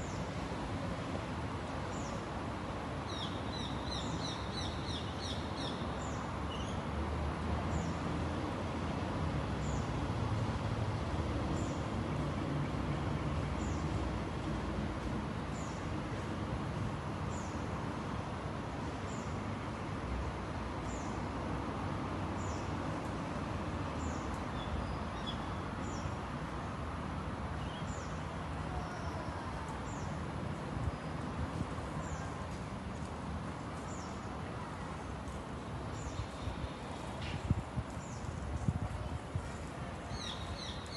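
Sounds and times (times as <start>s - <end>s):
outdoor background noise: 0.0s - 40.9s.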